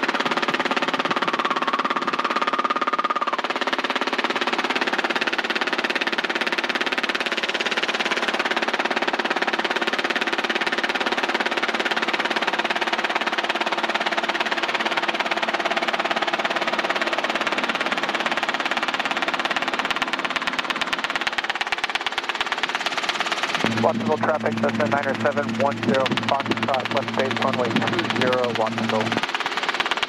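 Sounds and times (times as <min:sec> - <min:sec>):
helicopter engine and rotor drone: 0:00.0 - 0:30.0.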